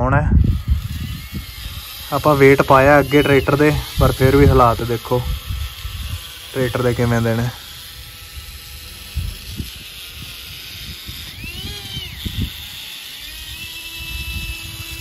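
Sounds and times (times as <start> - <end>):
electric motor whining: 0.0 - 15.0
low wind rumble: 0.0 - 15.0.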